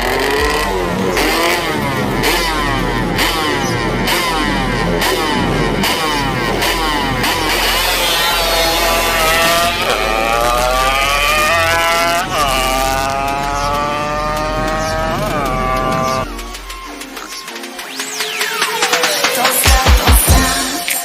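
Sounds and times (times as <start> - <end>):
two-stroke motorcycle accelerating: 0.0 - 20.5.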